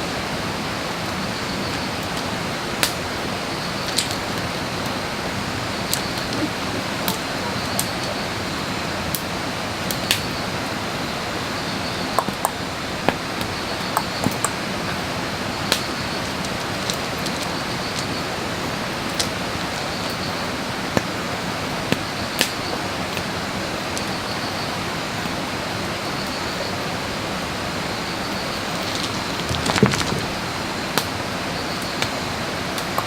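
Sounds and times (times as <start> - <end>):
wood fire crackling and hissing: 0.0 - 33.0.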